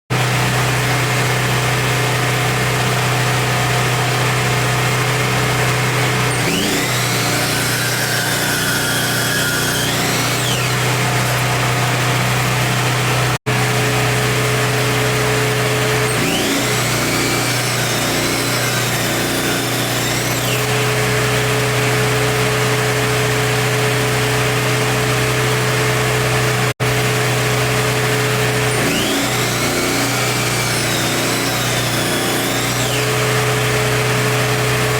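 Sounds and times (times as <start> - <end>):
miter saw motor running: 0.1 - 34.9.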